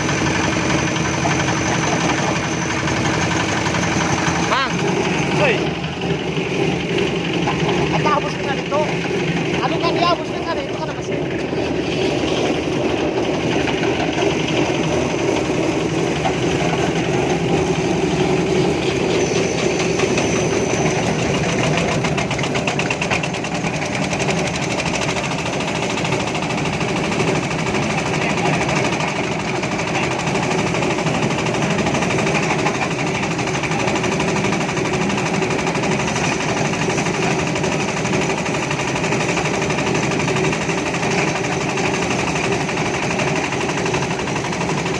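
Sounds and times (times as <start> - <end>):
small engine clattering: 0.0 - 44.9.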